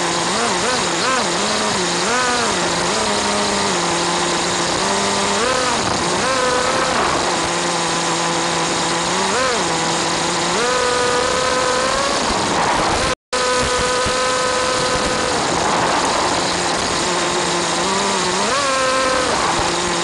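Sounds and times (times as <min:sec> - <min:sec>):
small engine running high: 0:00.0 - 0:20.0.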